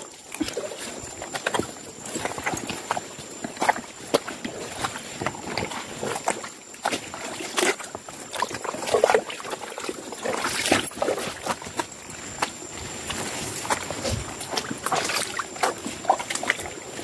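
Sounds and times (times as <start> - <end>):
footsteps on wet stones: 0.0 - 17.0
water splashing: 0.0 - 17.0.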